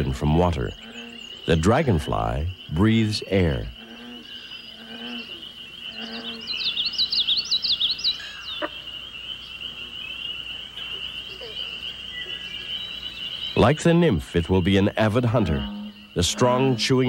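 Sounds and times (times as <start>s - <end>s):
low croaking call: 0.0s - 17.0s
songbird chirping: 0.0s - 17.0s.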